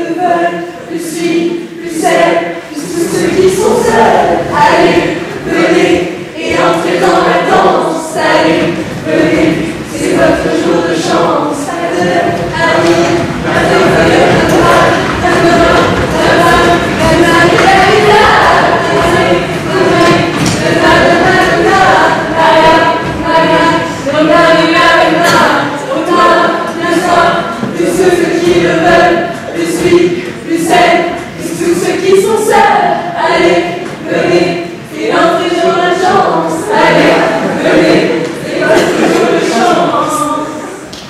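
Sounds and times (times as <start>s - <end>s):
mixed choir singing: 0.0s - 41.0s.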